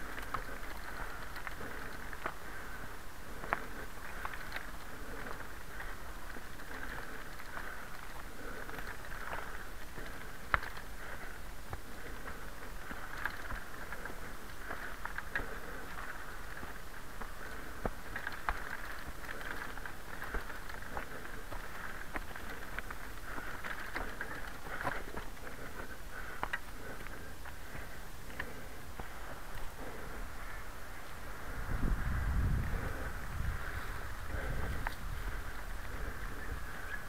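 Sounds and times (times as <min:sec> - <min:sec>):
tyres crackling over dry leaves: 0:00.0 - 0:37.0.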